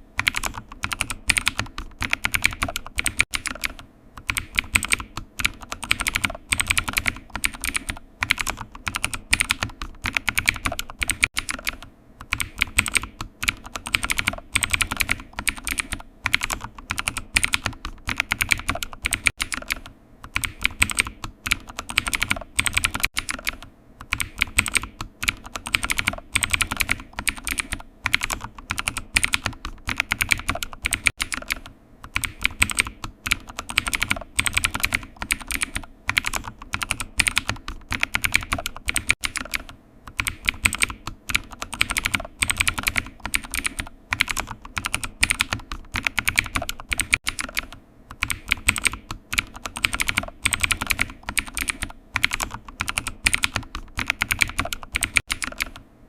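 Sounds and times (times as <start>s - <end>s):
computer keyboard typing: 0.0s - 55.9s.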